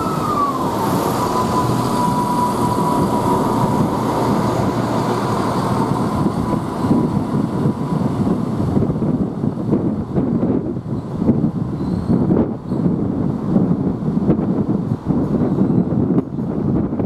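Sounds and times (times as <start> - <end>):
train whine dropping in pitch: 0.0 - 16.2
train engines rumbling: 0.0 - 17.0.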